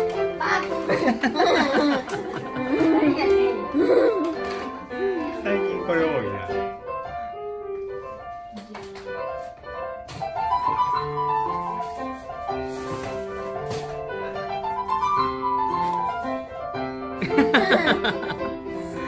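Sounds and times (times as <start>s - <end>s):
piano music with held notes: 0.0s - 19.0s.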